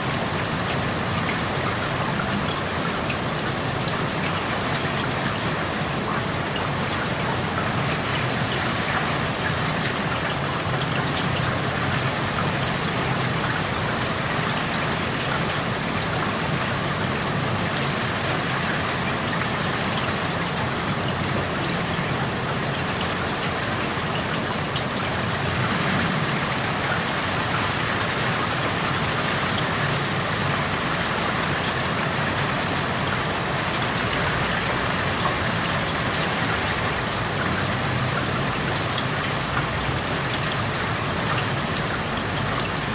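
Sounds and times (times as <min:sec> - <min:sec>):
rain pattering outdoors: 0:00.0 - 0:42.9.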